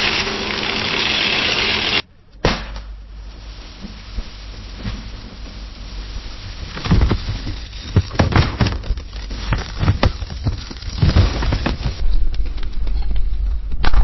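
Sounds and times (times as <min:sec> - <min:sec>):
wood fire crackling: 0:00.0 - 0:12.8
low rumble of flames: 0:00.0 - 0:14.0.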